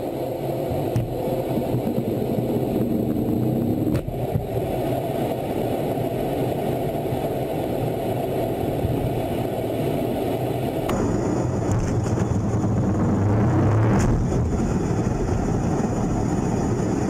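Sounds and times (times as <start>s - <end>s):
hissy air rush: 0.0s - 16.3s
jet engine and airflow rumble: 0.0s - 17.0s.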